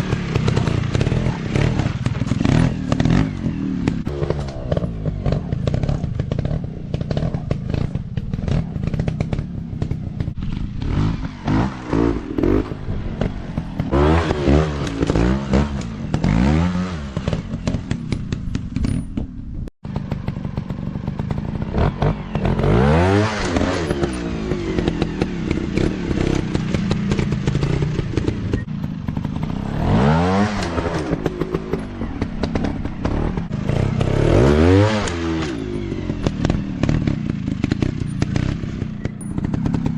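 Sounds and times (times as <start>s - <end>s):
dirt bike engines revving: 0.0s - 19.0s, 19.9s - 39.9s.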